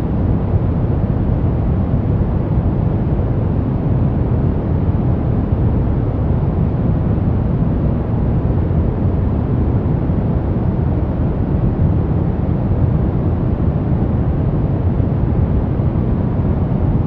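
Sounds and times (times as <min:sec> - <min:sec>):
deep brown noise: 0:00.0 - 0:17.0.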